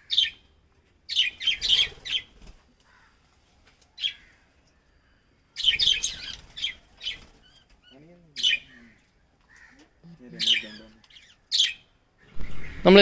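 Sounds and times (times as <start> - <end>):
lovebirds chirping: 0.0 - 13.0.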